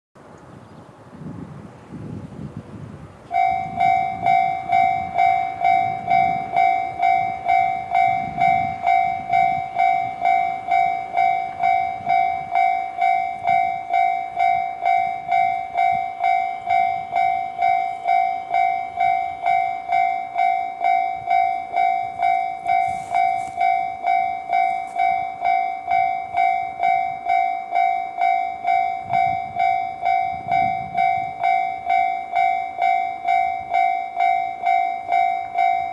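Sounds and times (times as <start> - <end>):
level-crossing electronic bell: 3.3 - 35.9.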